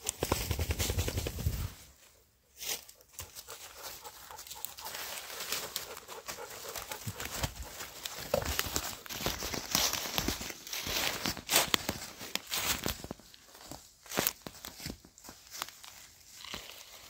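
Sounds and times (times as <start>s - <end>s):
footsteps in dry leaves: 2.5s - 17.0s.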